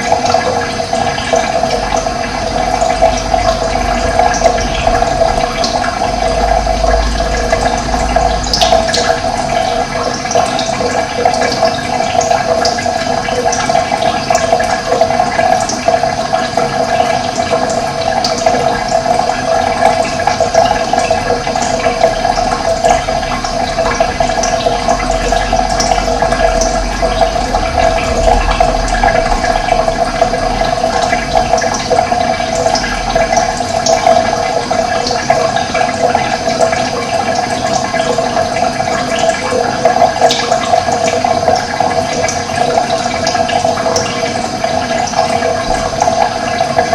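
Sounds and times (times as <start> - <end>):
running water: 0.0 - 46.9.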